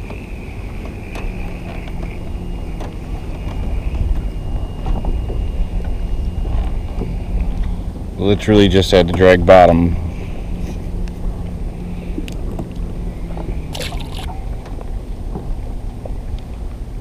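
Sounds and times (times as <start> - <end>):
trolling motor humming: 0.0 - 17.0
wind on microphone: 0.0 - 17.0.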